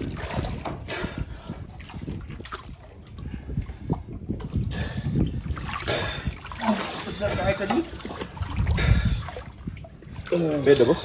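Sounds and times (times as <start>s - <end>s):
muffled water churning and sloshing: 0.0s - 11.0s.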